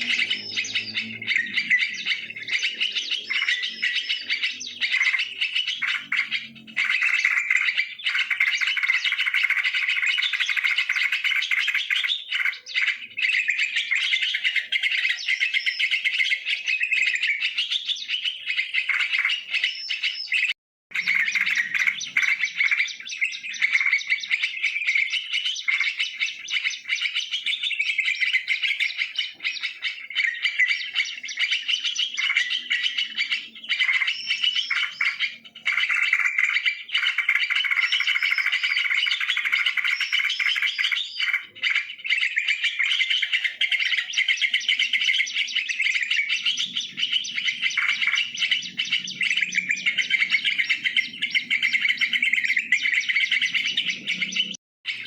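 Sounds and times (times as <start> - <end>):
birds chattering and chirping: 0.0 - 55.0.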